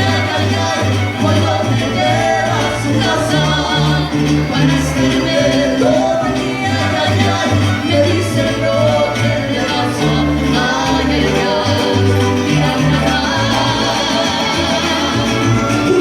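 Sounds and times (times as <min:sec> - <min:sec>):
mariachi band playing: 0:00.0 - 0:16.0.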